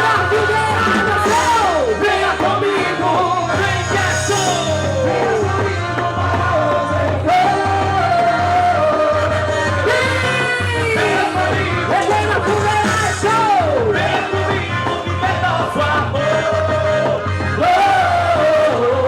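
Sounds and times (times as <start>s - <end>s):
folk dance music: 0.0s - 19.0s
group singing: 0.0s - 19.0s.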